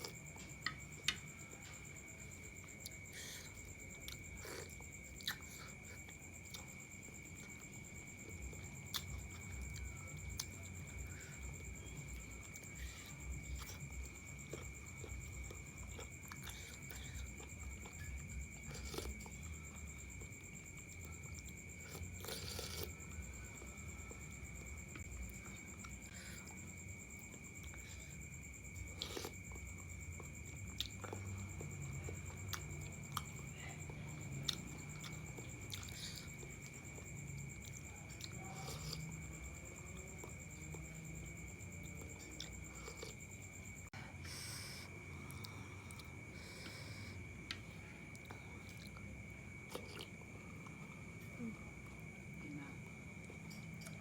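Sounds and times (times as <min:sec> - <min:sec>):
person chewing noodles: 0:00.0 - 0:52.1
insect trill: 0:00.0 - 0:54.0
soft eating sounds: 0:00.0 - 0:54.0.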